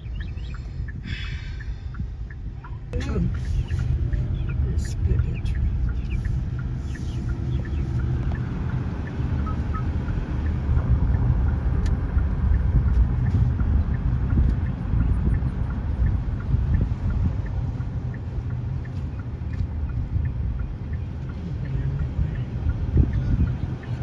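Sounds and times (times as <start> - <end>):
car engine rumble: 0.0 - 24.0
tyres on road: 0.0 - 24.0.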